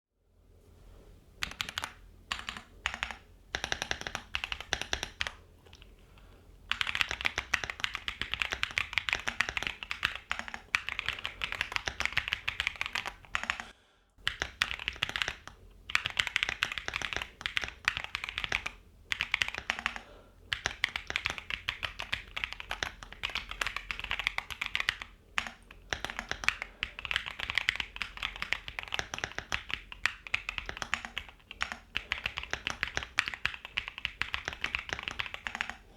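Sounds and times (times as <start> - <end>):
typing on mechanical keyboard: 1.4 - 35.9.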